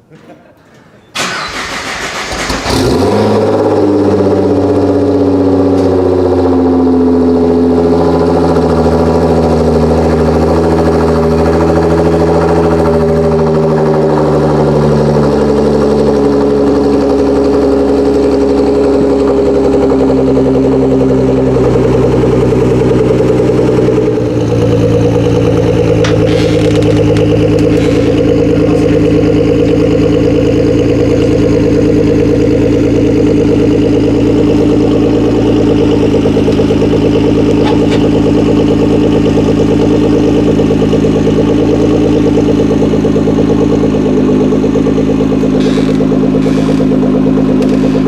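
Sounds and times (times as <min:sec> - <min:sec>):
car engine idling: 0:01.2 - 0:48.0.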